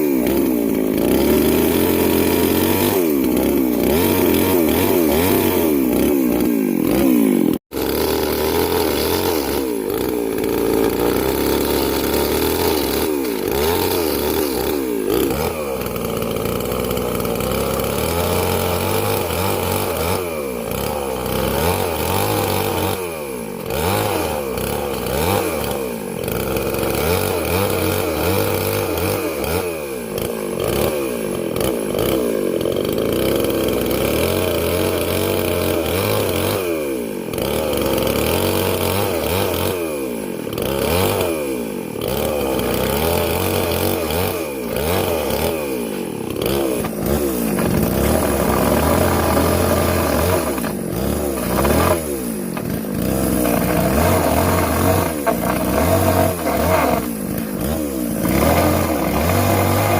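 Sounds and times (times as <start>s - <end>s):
small engine revving: 0.0s - 59.9s.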